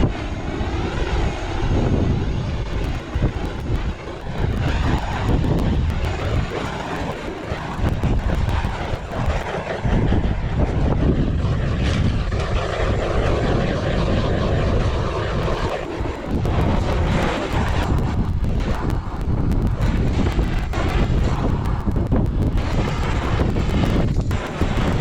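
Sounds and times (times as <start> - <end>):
gusting wind on microphone: 0.0 - 25.0.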